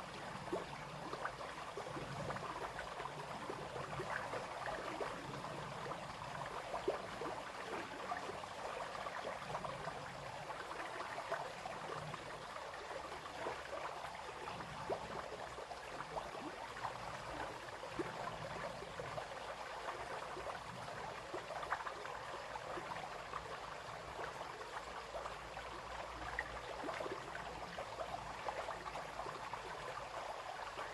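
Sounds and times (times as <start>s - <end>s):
brook babbling over stones: 0.0s - 30.9s.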